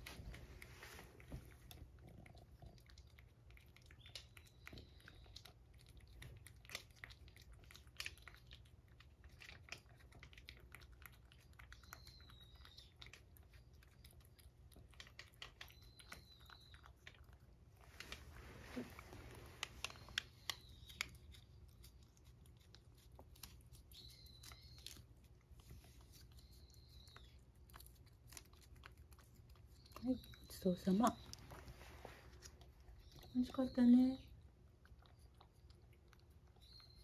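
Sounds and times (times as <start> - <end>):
cat licking and chewing: 0.0 - 37.0.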